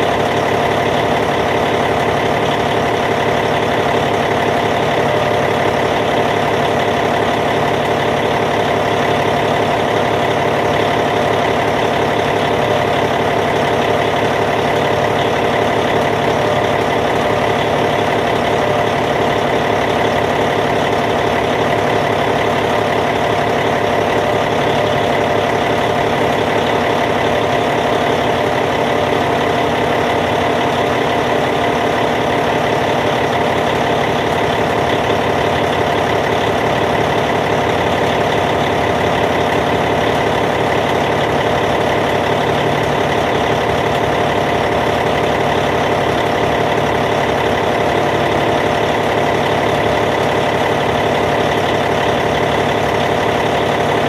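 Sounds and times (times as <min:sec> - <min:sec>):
bulldozer diesel engine idling: 0:00.0 - 0:54.0.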